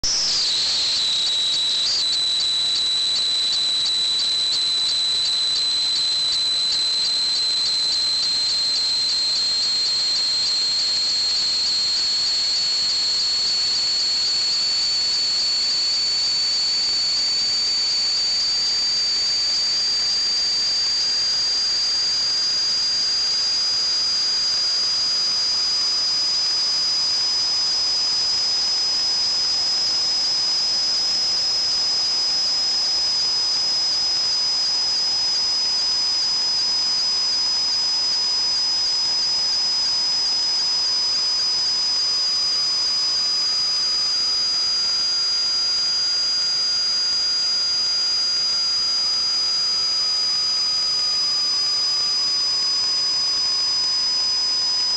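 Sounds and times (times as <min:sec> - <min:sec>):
high-pitched whistle: 0:00.0 - 0:54.9.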